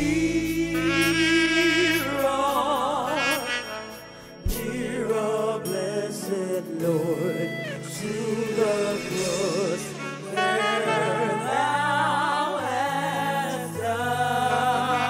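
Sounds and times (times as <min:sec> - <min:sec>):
group singing gospel music: 0:00.0 - 0:15.0
instrumental accompaniment: 0:00.0 - 0:15.0.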